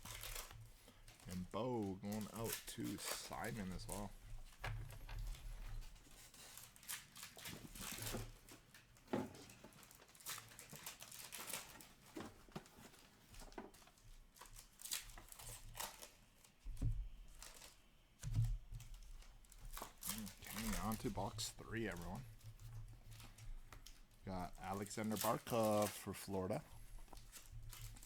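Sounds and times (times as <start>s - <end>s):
cards rustling: 0.0s - 16.6s, 17.2s - 28.0s
foil wrappers crinkling and tearing: 0.0s - 28.0s.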